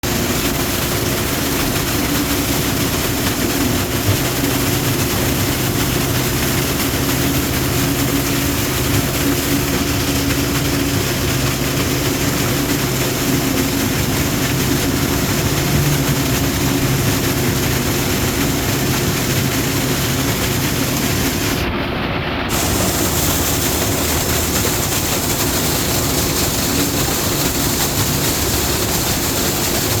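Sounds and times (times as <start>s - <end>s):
highway traffic roar: 1.8s - 30.0s.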